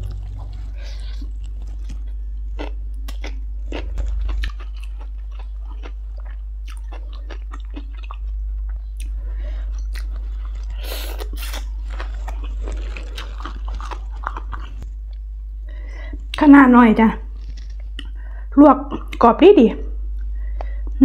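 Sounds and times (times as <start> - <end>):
chewing and crunching food: 0.0 - 15.3, 17.2 - 19.2
steady low hum: 0.0 - 21.0.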